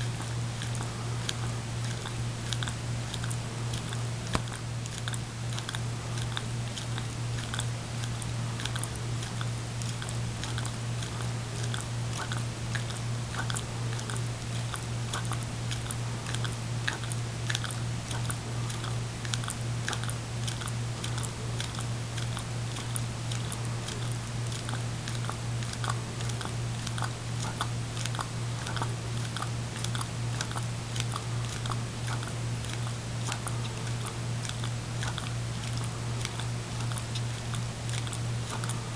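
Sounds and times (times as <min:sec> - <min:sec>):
dog licking: 0:00.0 - 0:38.9
steady low hum: 0:00.0 - 0:38.9.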